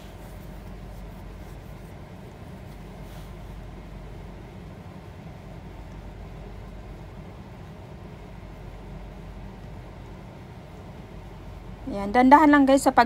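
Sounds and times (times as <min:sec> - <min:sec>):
gas stove rumble and hiss: 0:00.0 - 0:13.0.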